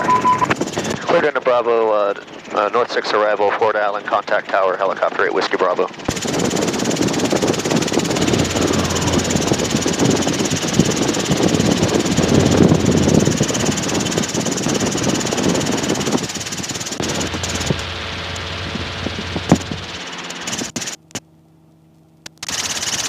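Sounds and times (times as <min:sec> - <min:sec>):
helicopter engine and rotor: 0:00.0 - 0:21.2, 0:22.4 - 0:23.0.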